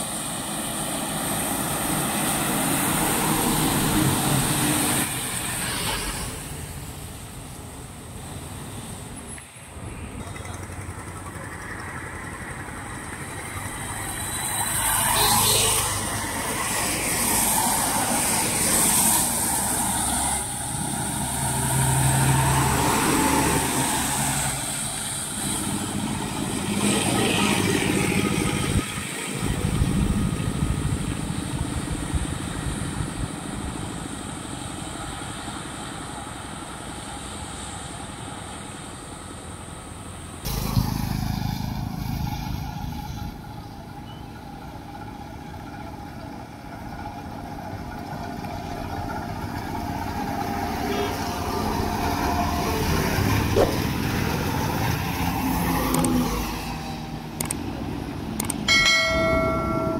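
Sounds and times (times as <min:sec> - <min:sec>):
trucks engine rumble: 0:00.0 - 0:59.9.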